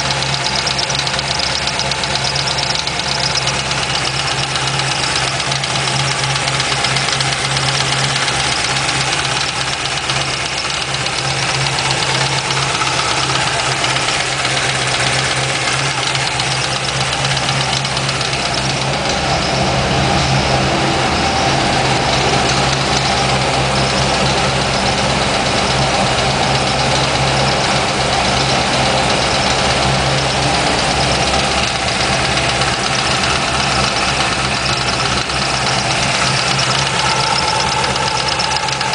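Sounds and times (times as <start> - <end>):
car engine idling: 0.0 - 38.9
rapid even engine ticking: 0.0 - 38.9.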